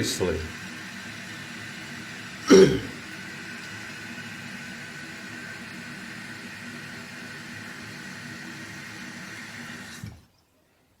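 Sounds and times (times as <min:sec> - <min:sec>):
toilet tank refilling hiss: 0:00.0 - 0:10.3.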